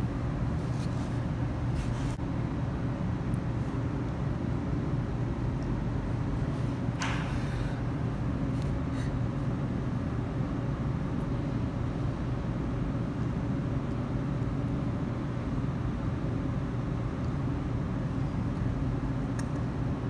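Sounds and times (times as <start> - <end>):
low mechanical rumble: 0.0 - 20.0.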